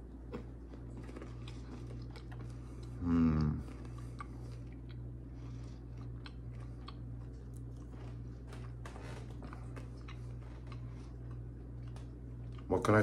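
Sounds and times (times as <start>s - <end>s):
person chewing bread: 0.0s - 13.0s
steady low hum: 0.0s - 13.0s.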